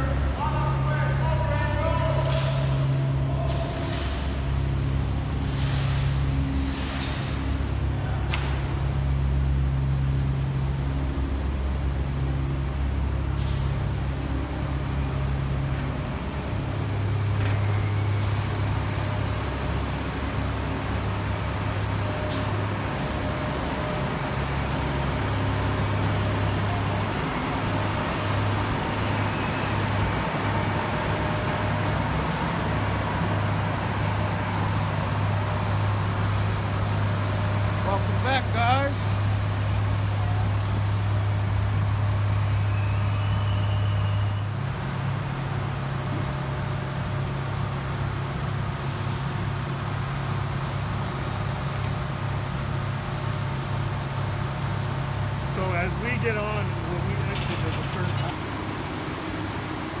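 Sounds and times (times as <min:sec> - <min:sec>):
machinery engine drone: 0:00.0 - 1:00.0.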